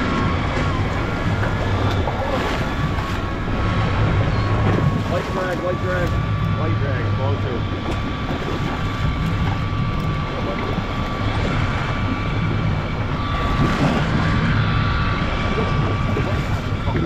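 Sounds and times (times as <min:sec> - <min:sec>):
boat engines humming: 0:00.0 - 0:17.0
high engine whine: 0:00.0 - 0:17.0.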